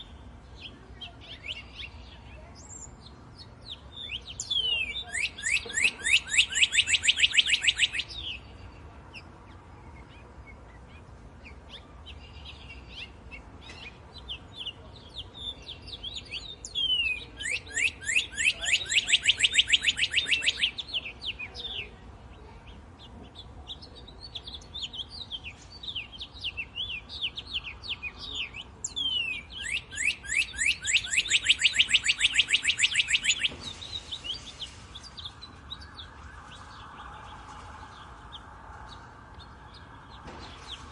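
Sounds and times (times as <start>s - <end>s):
soft bird chirps: 0.0s - 40.9s.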